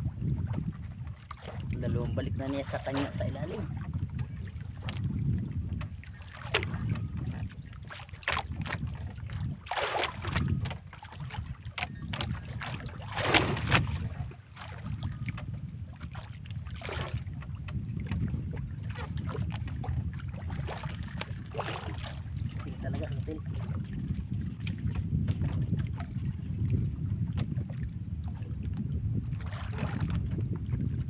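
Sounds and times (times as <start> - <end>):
water splashing against boat: 0.0 - 31.0
wind rumble on microphone: 0.0 - 31.0.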